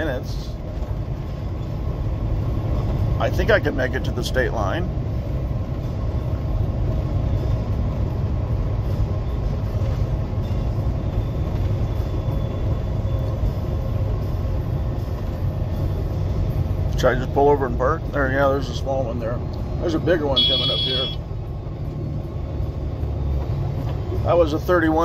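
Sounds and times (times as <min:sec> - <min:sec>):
truck engine and tyres rumbling: 0:00.0 - 0:25.0.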